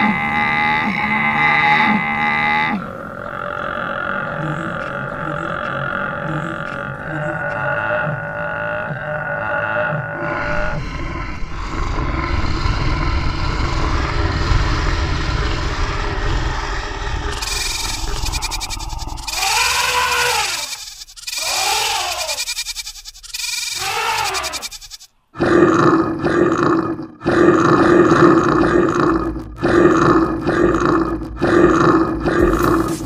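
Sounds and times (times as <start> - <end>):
animal roaring: 0.0 - 22.6, 23.2 - 33.0.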